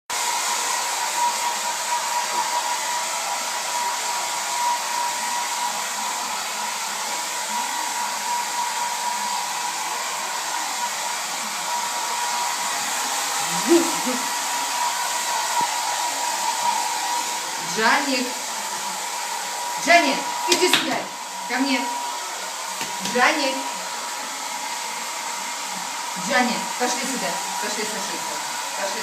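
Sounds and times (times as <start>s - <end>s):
hair dryer running: 0.1s - 29.0s.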